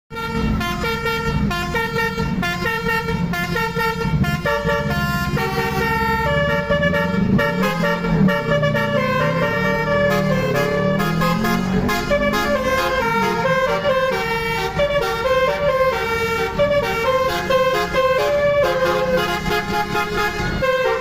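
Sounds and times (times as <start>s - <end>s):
air horns playing a tune: 0.1s - 21.0s
bus engine running: 0.1s - 21.0s.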